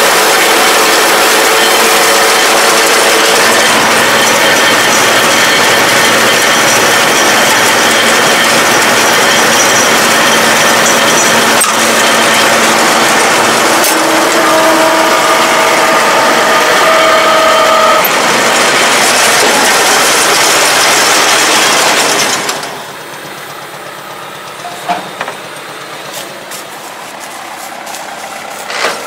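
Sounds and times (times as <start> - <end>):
baler mechanical noise: 0.0 - 29.0.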